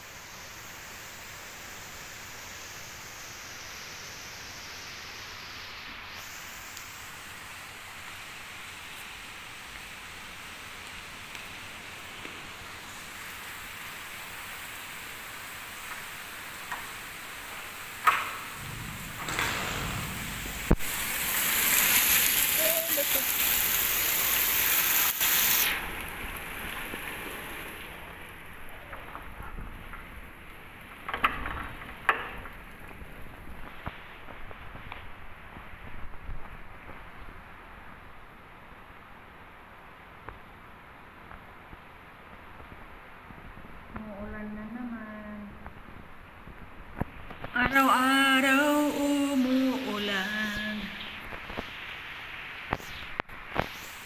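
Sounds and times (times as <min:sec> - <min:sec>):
heavy rain on pool water: 0:00.0 - 0:54.0.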